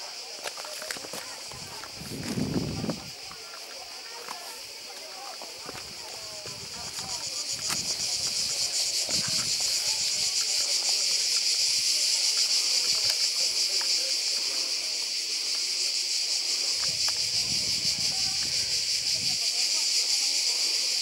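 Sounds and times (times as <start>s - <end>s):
cicadas shrilling: 0.0s - 21.0s.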